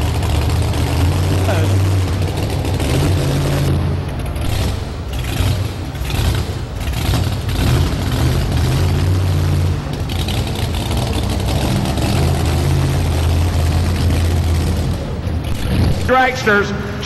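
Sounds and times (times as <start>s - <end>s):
truck engine idling with lumpy lope: 0.0s - 17.0s.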